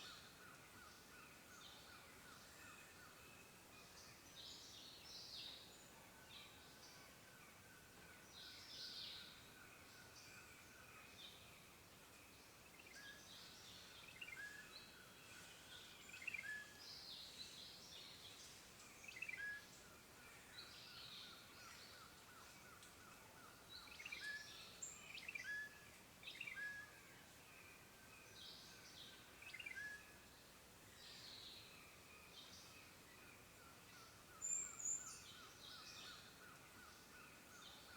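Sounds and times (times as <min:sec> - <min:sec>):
soft steady hiss: 0:00.0 - 0:37.9.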